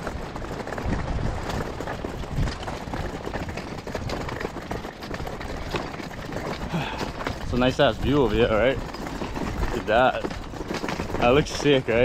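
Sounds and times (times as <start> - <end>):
wagon rattling over dirt trail: 0.0 - 12.0.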